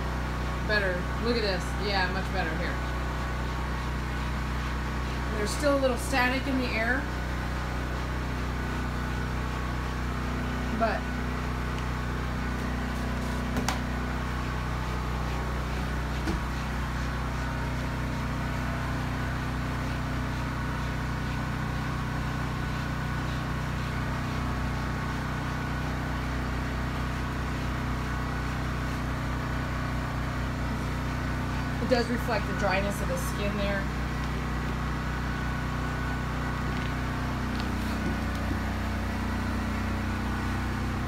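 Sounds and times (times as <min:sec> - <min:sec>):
machinery humming: 0:00.0 - 0:41.0.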